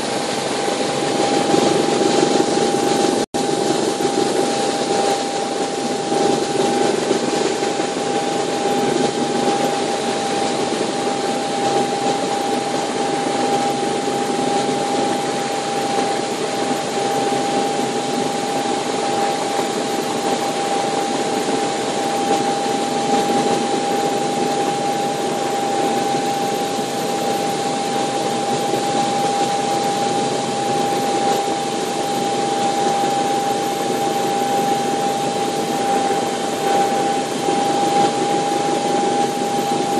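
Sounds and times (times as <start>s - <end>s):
helicopter engines and rotor hum: 0.0s - 39.9s
high whine: 0.0s - 39.9s.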